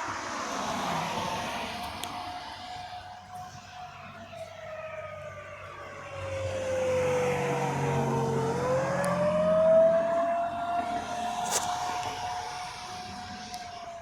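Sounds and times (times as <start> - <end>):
warning siren rising and falling: 0.0 - 14.0.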